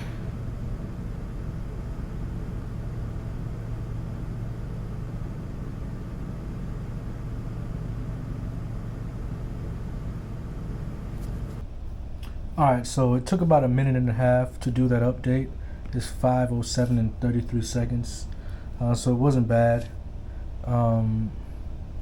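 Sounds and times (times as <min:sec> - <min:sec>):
fan humming with hiss: 0:00.0 - 0:22.0.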